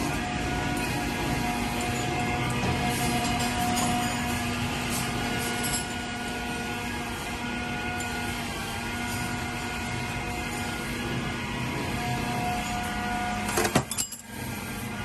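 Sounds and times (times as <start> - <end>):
polishing machine humming: 0.0 - 13.6.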